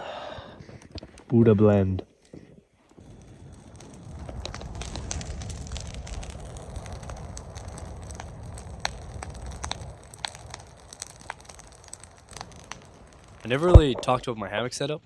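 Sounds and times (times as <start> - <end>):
campfire burning: 0.0 - 15.0
wood crackling and popping: 0.0 - 15.0.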